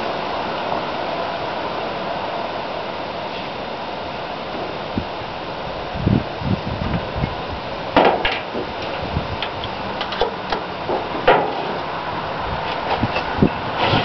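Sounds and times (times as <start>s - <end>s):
passing traffic: 0.0s - 14.0s
wind: 0.0s - 14.0s.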